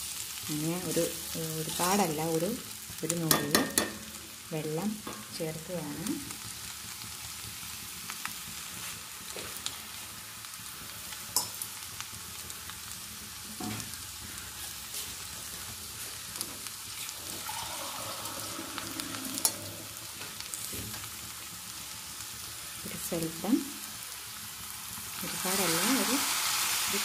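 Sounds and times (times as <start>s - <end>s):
potato sizzling in iron pan: 0.0s - 27.0s.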